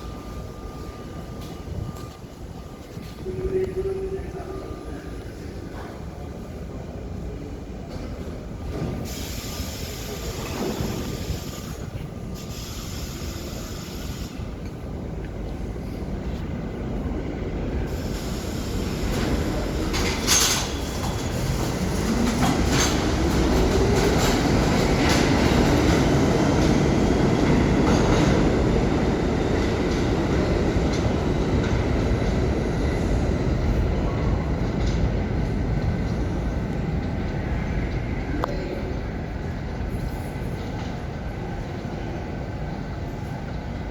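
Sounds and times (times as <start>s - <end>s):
subway train wheel noise and squeal: 0.0s - 43.9s.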